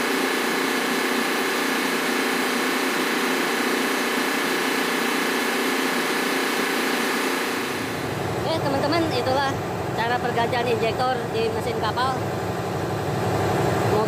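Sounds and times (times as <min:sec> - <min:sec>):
engine room drone: 0:00.0 - 0:14.0
thin steady whine: 0:00.0 - 0:14.0.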